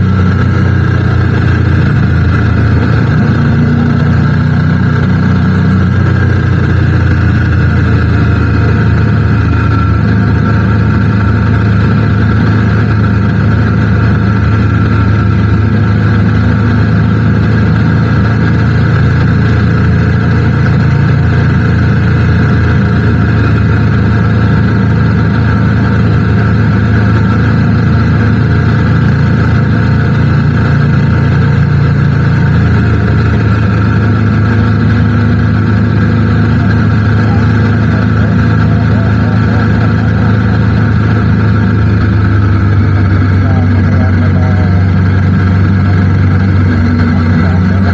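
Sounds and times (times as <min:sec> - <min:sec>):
motorcycle engine cruising: 0:00.0 - 0:47.9
wind and road noise: 0:00.0 - 0:47.9.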